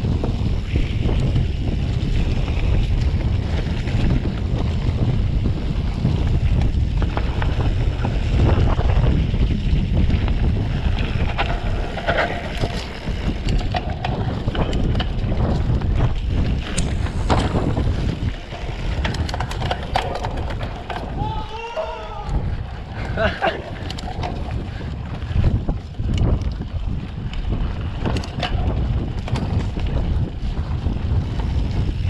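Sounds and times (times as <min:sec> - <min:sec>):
bike clicks and rattles: 0:00.0 - 0:32.0
low tyre rumble: 0:00.0 - 0:32.0
wind rushing over microphone: 0:00.0 - 0:32.0.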